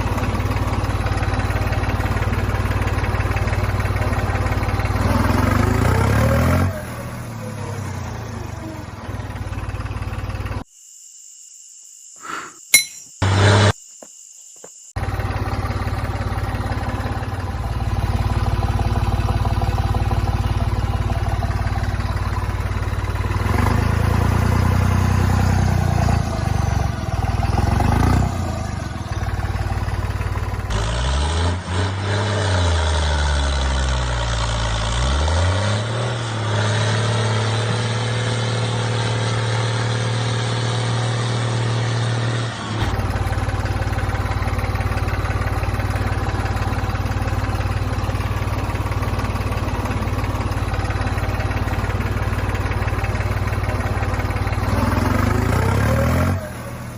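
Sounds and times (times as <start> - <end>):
small engine revving: 0.0 - 10.7, 13.2 - 13.8, 15.0 - 56.9.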